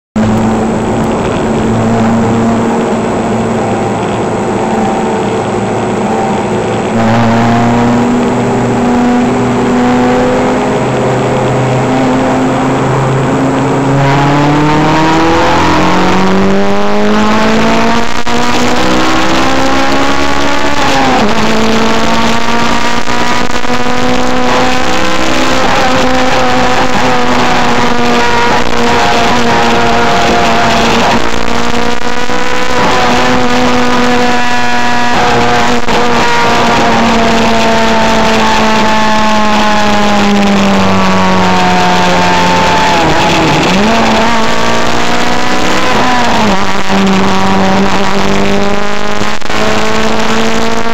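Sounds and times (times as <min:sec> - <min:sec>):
car engine accelerating: 0:00.2 - 0:50.9.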